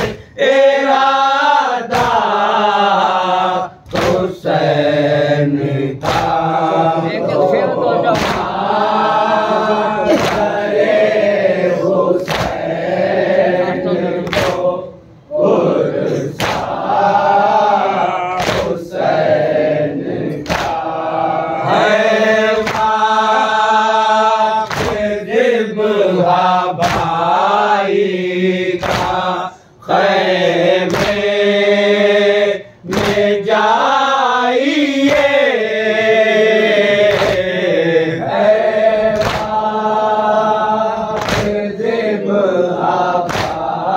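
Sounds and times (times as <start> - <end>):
men chanting in unison: 0.0 - 43.9
rhythmic chest-beating: 0.0 - 43.9.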